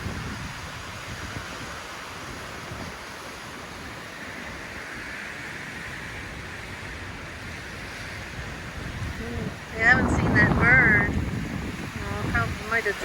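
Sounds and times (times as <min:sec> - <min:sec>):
strong wind blowing: 0:00.0 - 0:13.0
wind buffeting microphone: 0:00.0 - 0:13.0.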